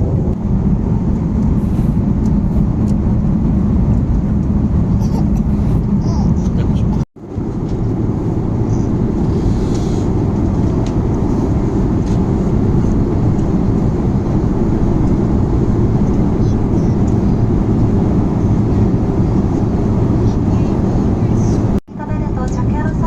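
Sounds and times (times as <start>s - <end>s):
jet engine roar in cabin: 0.0s - 23.0s.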